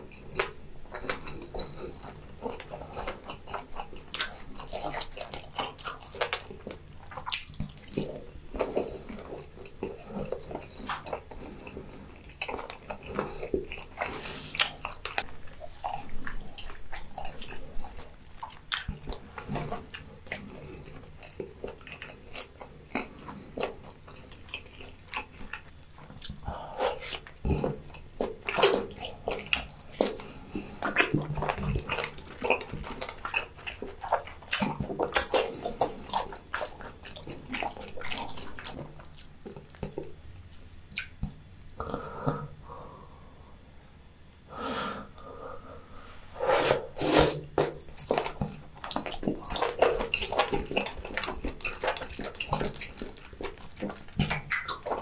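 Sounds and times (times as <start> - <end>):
person chewing and biting: 0.1 - 40.2, 46.6 - 55.0.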